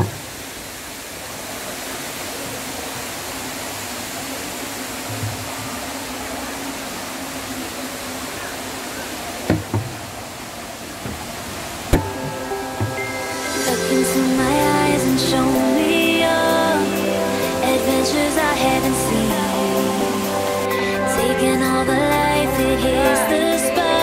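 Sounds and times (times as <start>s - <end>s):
indoor waterfall rushing: 0.0s - 24.0s.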